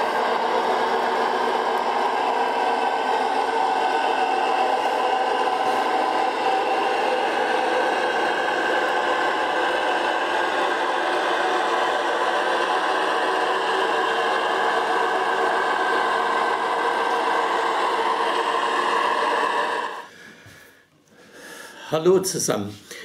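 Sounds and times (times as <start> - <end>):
model train motor whir: 0.0 - 20.1.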